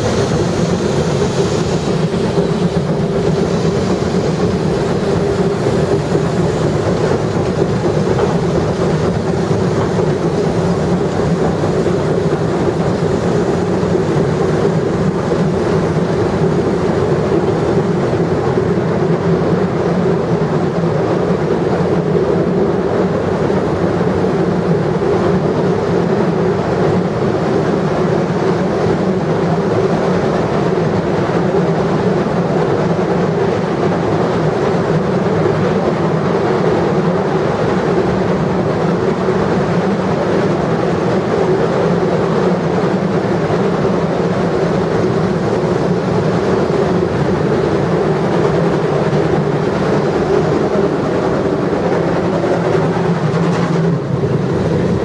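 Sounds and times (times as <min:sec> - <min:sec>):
steam locomotive rumbling: 0:00.0 - 0:55.0.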